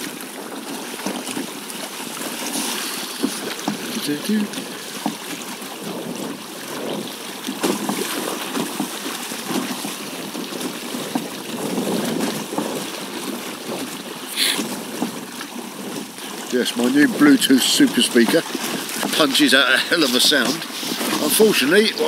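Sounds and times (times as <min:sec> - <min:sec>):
water rushing along kayak hull: 0:00.0 - 0:22.0.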